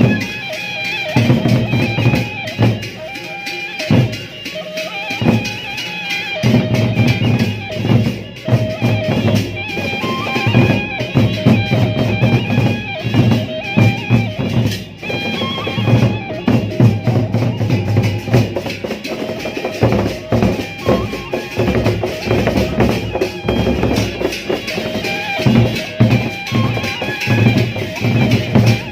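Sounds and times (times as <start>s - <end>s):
bamboo flute melody: 0.0s - 28.9s
large barrel drums beating: 1.1s - 3.2s, 3.8s - 4.4s, 5.2s - 5.8s, 6.4s - 28.9s.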